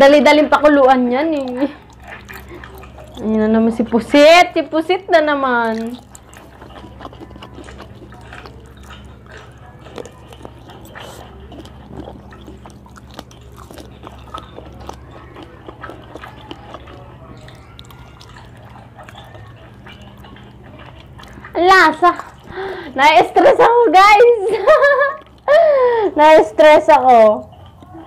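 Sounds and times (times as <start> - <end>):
steady low hum: 0.0 - 28.0
wet chewing and squelches: 0.0 - 28.0.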